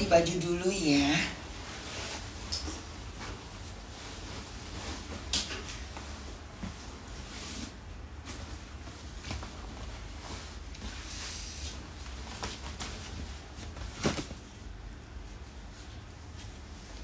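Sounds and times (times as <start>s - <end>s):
cloth rustling and flapping: 0.8s - 17.0s.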